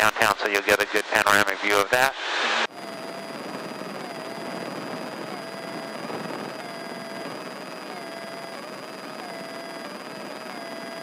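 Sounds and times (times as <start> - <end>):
airplane engine and propeller drone: 0.2 - 11.0.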